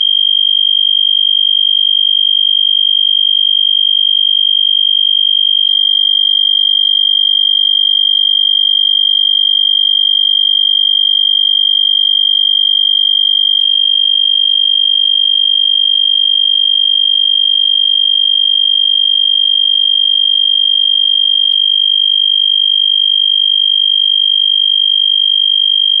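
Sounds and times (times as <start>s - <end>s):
fire alarm horn steady tone: 0.0s - 26.0s.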